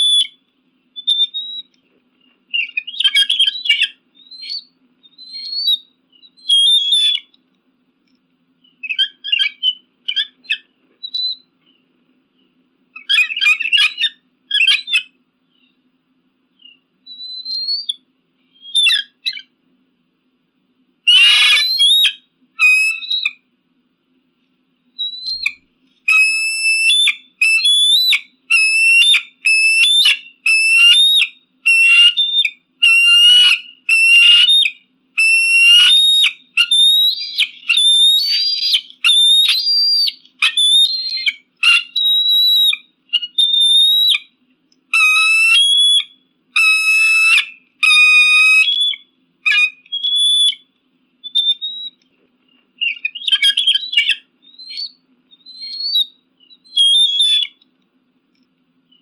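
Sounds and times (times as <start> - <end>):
eagle calling: 0.0 - 0.4, 2.5 - 7.4, 8.6 - 11.5, 13.0 - 15.8, 16.6 - 19.5, 21.1 - 23.5, 25.0 - 57.7.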